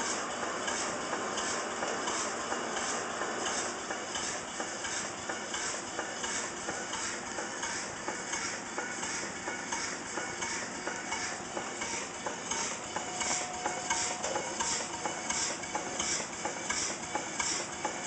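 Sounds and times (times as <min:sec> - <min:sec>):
steam engine exhaust puffs: 0:00.0 - 0:18.0.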